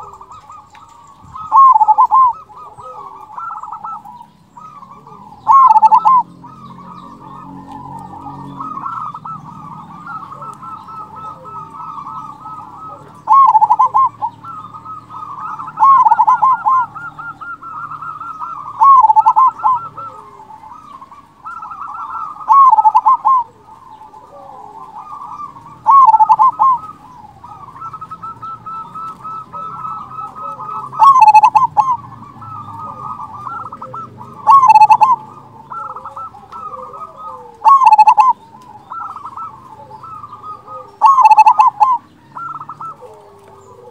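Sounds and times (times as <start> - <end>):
dove loud rolling call: 0.0 - 43.9
dove soft trilled coos: 0.0 - 43.9.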